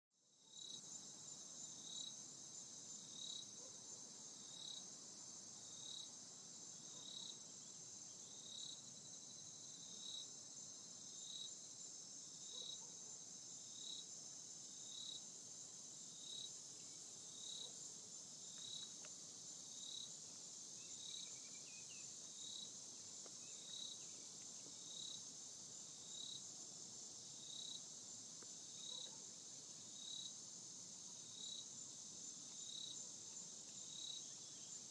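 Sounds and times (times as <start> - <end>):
insect lower chirp: 0.2 - 34.9
insect high-pitched trill: 0.3 - 27.9, 28.6 - 34.9.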